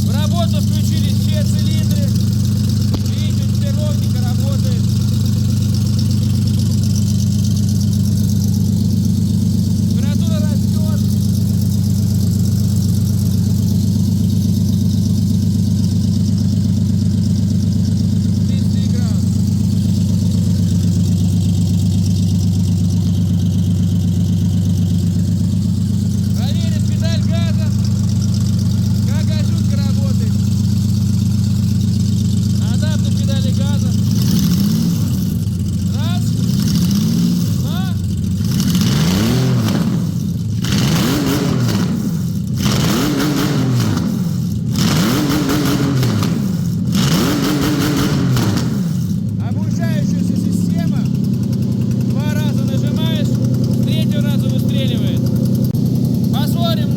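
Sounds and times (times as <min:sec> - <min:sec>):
engine idling smoothly: 0:00.0 - 0:56.9.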